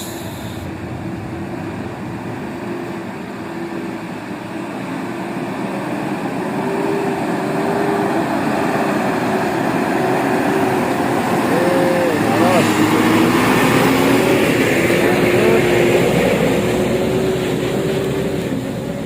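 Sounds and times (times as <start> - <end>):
heavy truck engine and tyres: 0.0 - 19.0.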